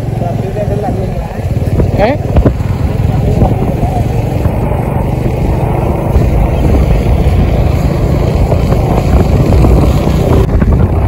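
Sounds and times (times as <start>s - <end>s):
vehicle road noise: 0.0s - 11.0s
wind rumble: 0.0s - 11.0s.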